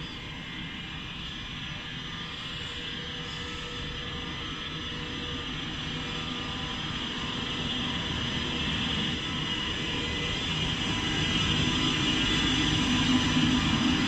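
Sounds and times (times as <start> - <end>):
train rolling and whining: 0.0 - 14.0.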